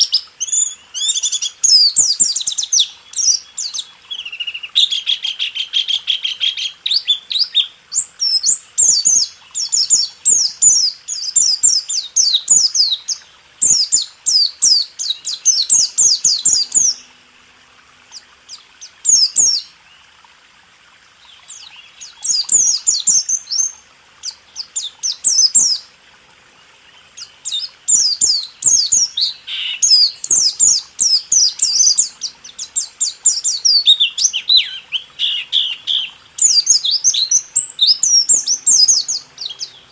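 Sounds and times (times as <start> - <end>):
bird singing high chirps: 0.0 - 17.1, 18.1 - 19.8, 21.2 - 25.9, 26.8 - 39.9.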